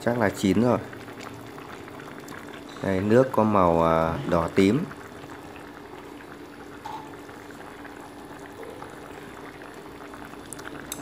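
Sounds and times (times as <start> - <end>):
pot bubbling at a simmer: 0.0 - 11.0.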